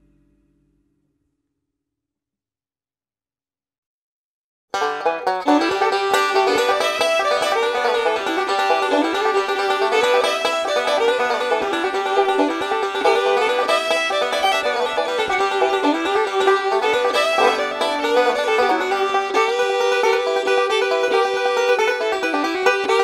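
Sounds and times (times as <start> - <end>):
plucked string music: 0.0 - 1.2, 4.7 - 23.0.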